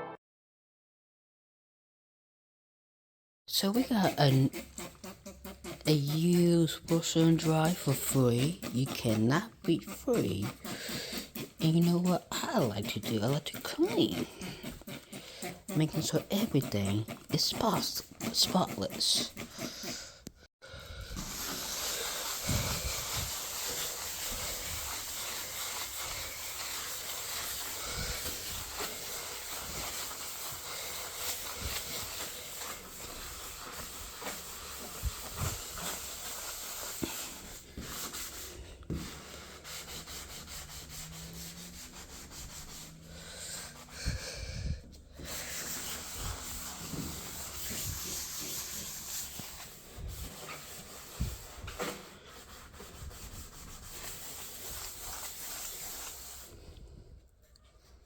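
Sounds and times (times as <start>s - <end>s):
scrubbing a dryer surface: 3.5s - 20.2s, 21.2s - 56.8s.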